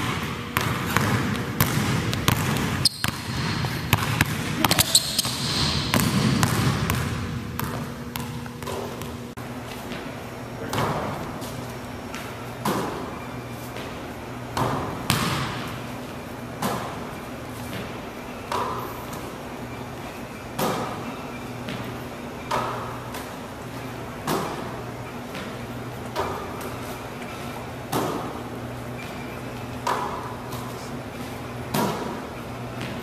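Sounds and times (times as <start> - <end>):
basketball banging in gym: 0.0 - 33.0
steady low hum: 0.0 - 33.0.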